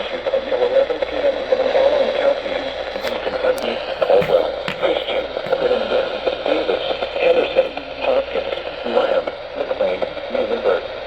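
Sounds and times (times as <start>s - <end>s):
muffled voice over radio: 0.0s - 11.0s
radio static and hiss: 0.0s - 11.0s.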